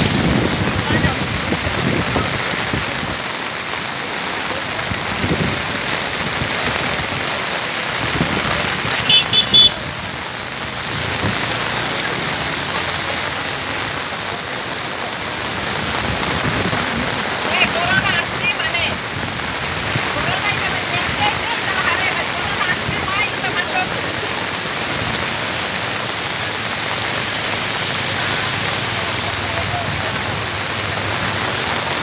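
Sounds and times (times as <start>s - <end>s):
heavy rain on wet road: 0.0s - 32.0s
river rushing: 0.0s - 32.0s.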